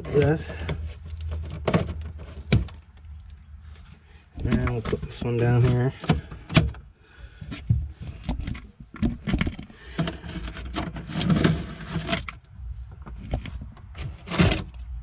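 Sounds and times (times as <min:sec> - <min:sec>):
clicks scrapes and rustles of wiring: 0:00.0 - 0:15.0.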